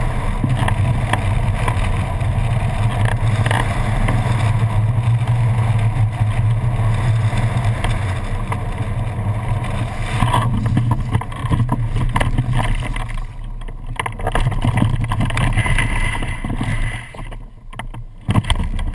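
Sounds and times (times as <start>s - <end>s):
wind rushing over camera: 0.0s - 18.9s.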